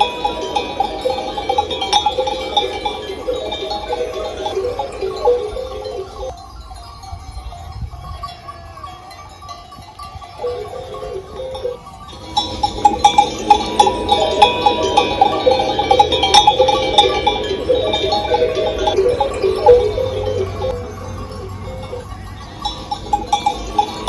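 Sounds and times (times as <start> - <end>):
sheep bells clanking: 0.0 - 24.0.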